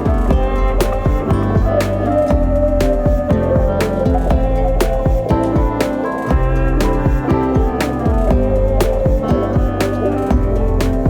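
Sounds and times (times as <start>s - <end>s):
plucked string music over beat: 0.0s - 11.0s.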